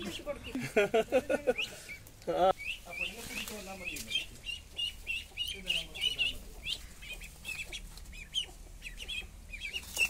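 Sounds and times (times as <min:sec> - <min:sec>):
ducklings peeping: 0:00.0 - 0:10.0.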